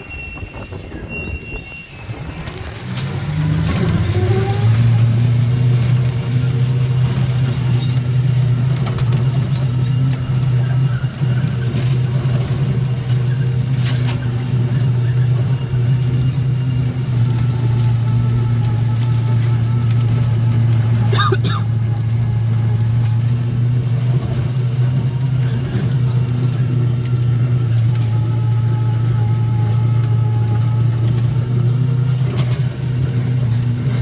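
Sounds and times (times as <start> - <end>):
ride motor drone: 1.8 - 34.0.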